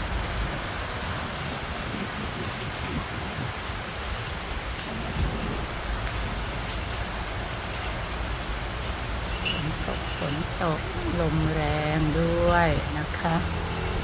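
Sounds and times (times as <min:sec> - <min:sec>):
heavy rain pouring: 0:00.0 - 0:14.0
wind gusts rumbling: 0:00.0 - 0:14.0.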